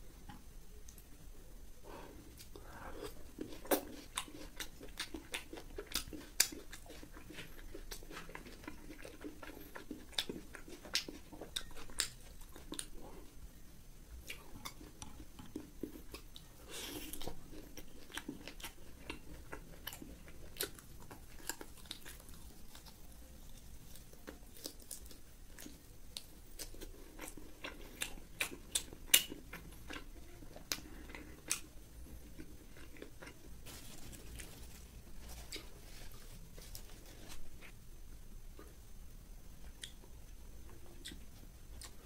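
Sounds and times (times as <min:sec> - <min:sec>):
crunchy chewing: 0:02.1 - 0:13.4, 0:14.2 - 0:37.8, 0:39.6 - 0:42.0.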